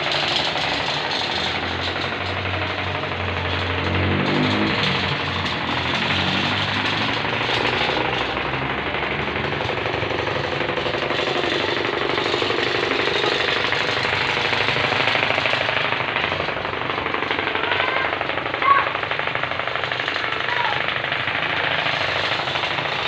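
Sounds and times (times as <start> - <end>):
carpet beating machine hammering: 0.0 - 23.0.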